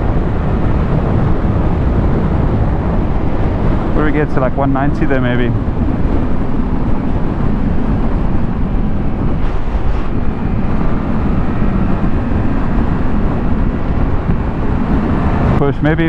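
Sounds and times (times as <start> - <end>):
wind rush on microphone: 0.0 - 16.0.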